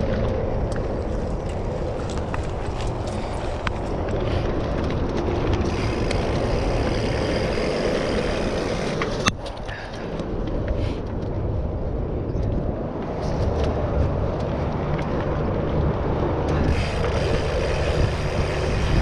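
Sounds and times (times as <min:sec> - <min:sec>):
bike rattles and knocks: 0:00.0 - 0:11.4, 0:12.3 - 0:19.0
bike tyres rumbling on dirt: 0:00.0 - 0:19.0.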